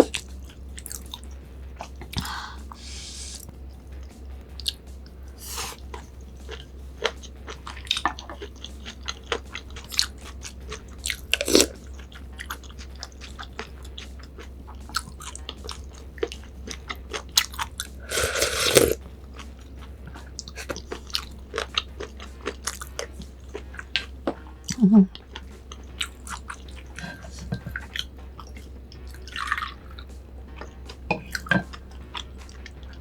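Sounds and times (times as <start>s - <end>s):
person chewing and biting food: 0.0s - 2.4s, 3.4s - 4.9s, 5.5s - 33.0s
low hum: 0.0s - 33.0s.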